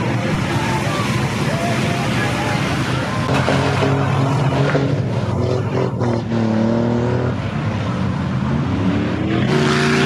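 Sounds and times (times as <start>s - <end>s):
truck engines revving: 0.0s - 10.0s.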